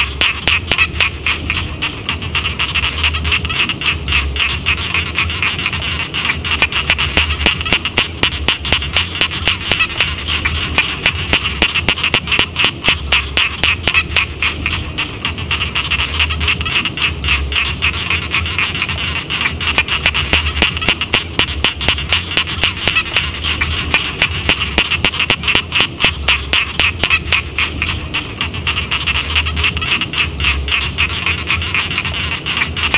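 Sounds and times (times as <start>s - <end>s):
frogs croaking in chorus: 0.0s - 32.9s.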